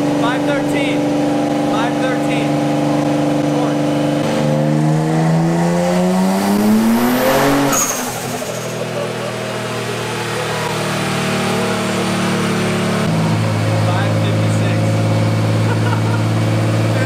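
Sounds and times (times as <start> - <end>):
car engine at full throttle: 0.0 - 17.0.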